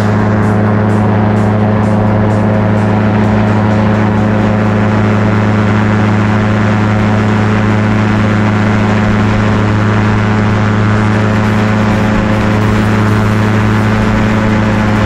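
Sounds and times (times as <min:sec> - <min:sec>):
light aircraft engine and propeller: 0:00.0 - 0:15.0
wind rushing over microphone: 0:00.0 - 0:15.0.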